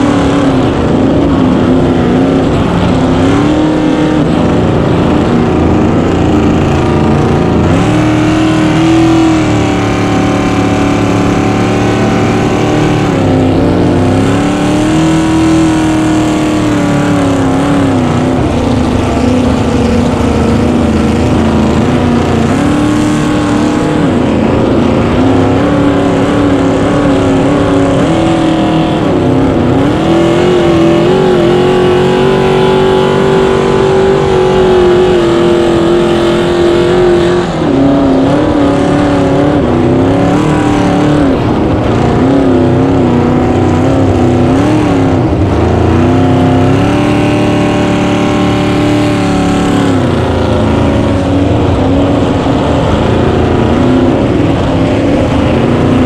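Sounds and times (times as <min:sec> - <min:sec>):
race boat engine at high revs: 0:00.0 - 0:56.0.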